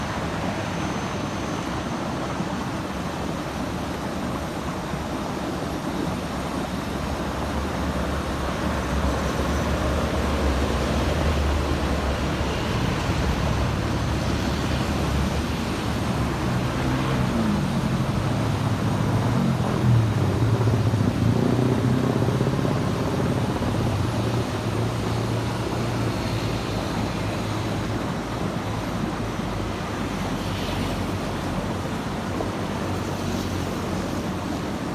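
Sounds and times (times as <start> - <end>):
road traffic: 6.6 - 34.9.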